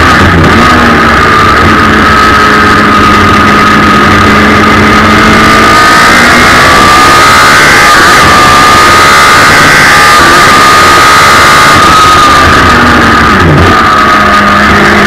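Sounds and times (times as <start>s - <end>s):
racing engine running hard: 0.0s - 15.0s.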